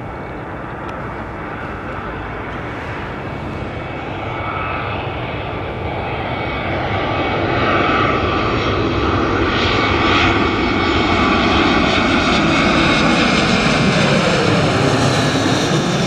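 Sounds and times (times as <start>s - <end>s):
jet engines rumbling and whining: 0.0s - 16.0s.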